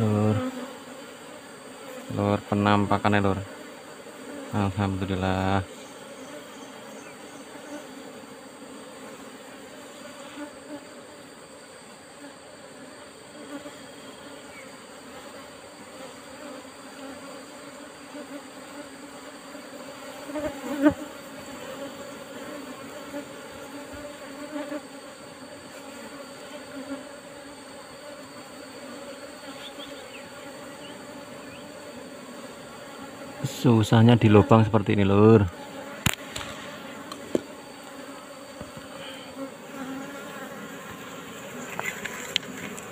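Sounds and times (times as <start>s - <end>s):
bee swarm buzzing: 0.0s - 42.9s.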